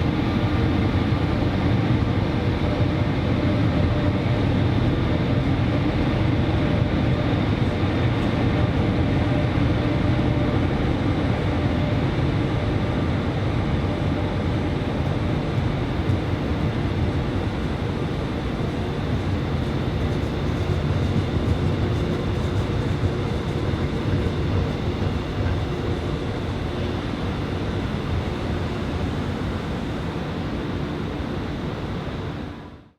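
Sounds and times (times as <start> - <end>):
train rumbling on rails: 0.0 - 32.9.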